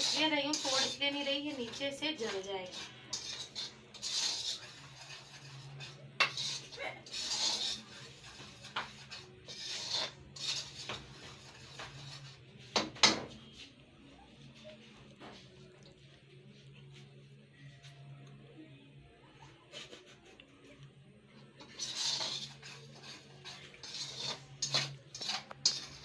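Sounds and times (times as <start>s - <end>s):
metal spatula scraping semolina: 0.0s - 17.9s, 19.4s - 26.0s.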